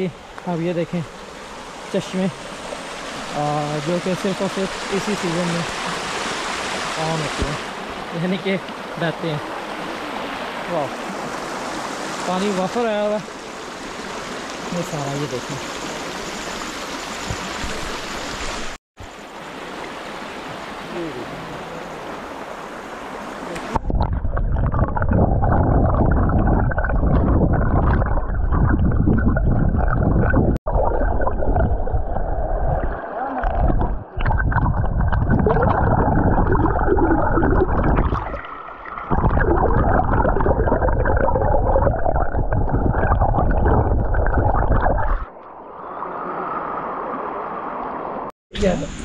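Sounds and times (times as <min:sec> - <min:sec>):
stream rushing and gurgling: 0:00.0 - 0:49.0.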